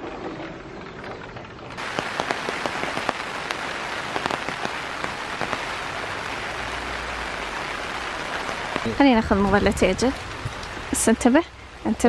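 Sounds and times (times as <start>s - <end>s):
steady rain falling: 1.7s - 12.0s
sharp raindrops striking close: 1.8s - 12.0s.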